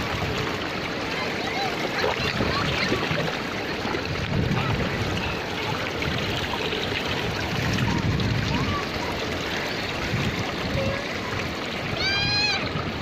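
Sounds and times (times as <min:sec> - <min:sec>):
stream of water pouring into sea: 0:00.0 - 0:13.0.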